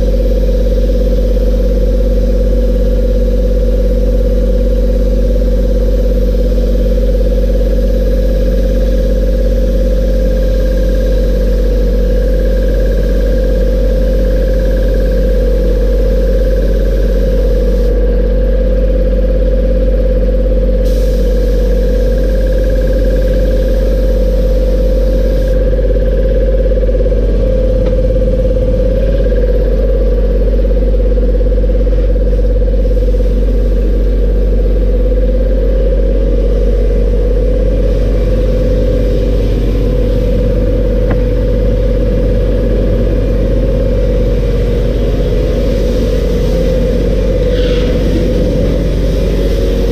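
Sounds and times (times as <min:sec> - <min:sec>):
air hissing: 0:00.0 - 0:18.0, 0:20.8 - 0:29.7, 0:32.2 - 0:49.9
air compressor humming: 0:00.0 - 0:49.9.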